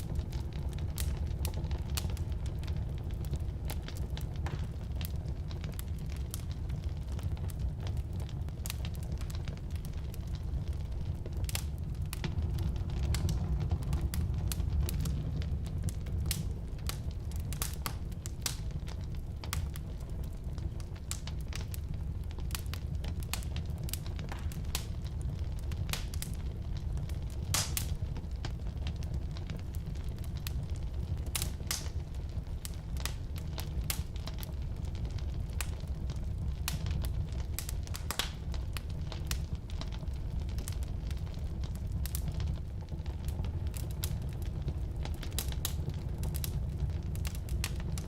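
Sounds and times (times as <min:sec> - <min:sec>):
firewood crackling and popping: 0:00.0 - 0:48.0
low rumble of flames: 0:00.0 - 0:48.0.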